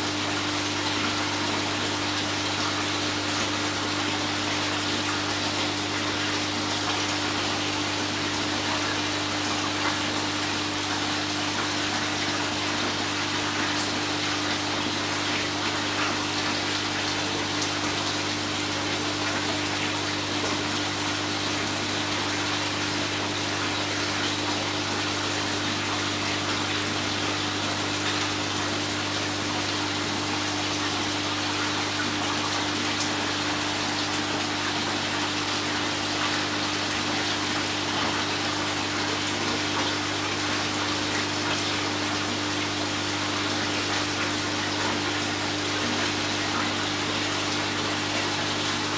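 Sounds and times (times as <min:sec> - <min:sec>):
low pump hum: 0:00.0 - 0:48.9
running water: 0:00.0 - 0:48.9.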